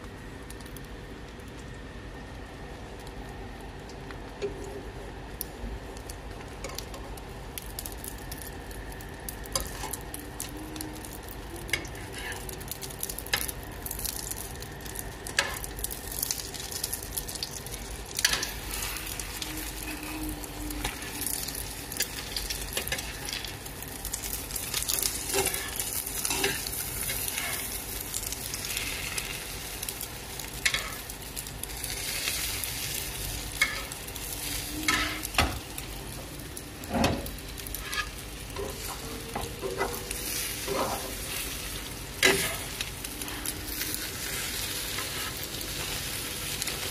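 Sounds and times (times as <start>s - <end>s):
omelette sizzling in oil: 0.2s - 46.9s.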